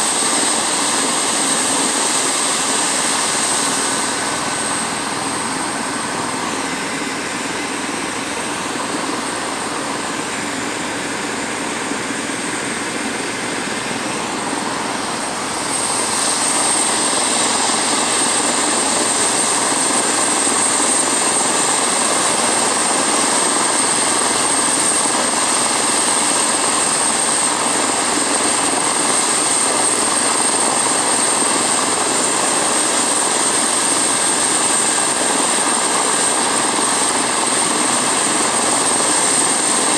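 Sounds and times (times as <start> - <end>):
helicopter engines and rotor running: 0.0 - 39.9.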